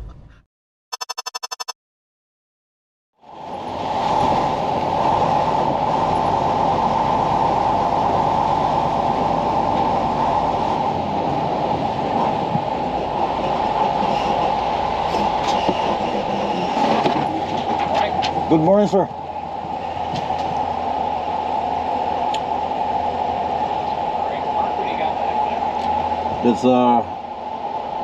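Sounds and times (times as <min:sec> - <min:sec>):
road rumble: 0:03.2 - 0:28.0.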